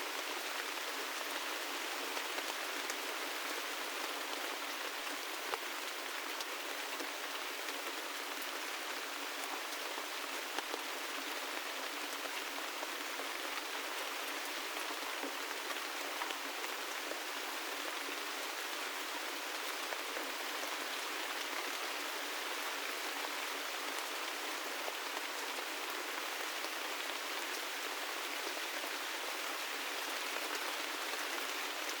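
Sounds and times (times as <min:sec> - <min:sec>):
gentle rainfall: 0:00.0 - 0:32.0.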